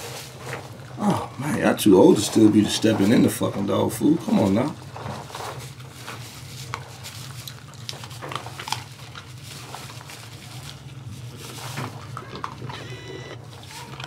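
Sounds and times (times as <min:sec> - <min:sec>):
puppies crunching kibble: 0:00.0 - 0:14.0.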